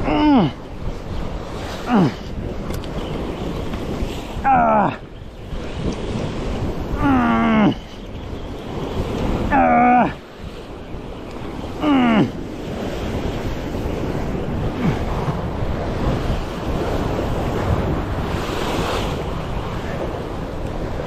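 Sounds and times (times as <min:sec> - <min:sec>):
sea waves against rocky shore: 0:00.0 - 0:21.0
wind buffeting microphone: 0:00.0 - 0:21.0.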